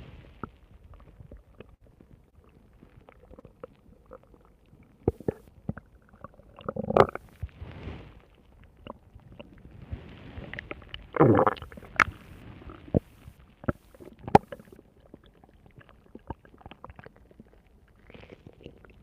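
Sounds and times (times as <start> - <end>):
stomach growling and gurgling: 0.0 - 19.0.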